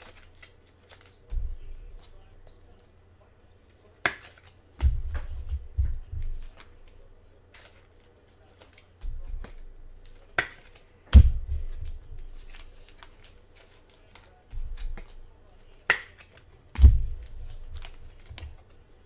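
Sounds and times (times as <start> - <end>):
cards snapping and shuffling: 0.0 - 18.8.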